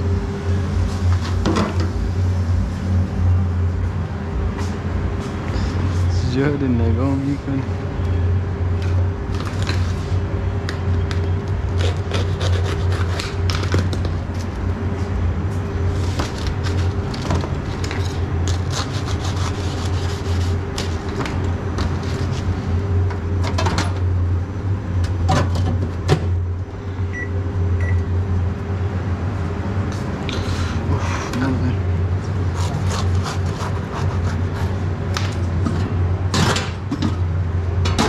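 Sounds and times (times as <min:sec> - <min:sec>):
low hum of kitchen equipment: 0:00.0 - 0:38.0.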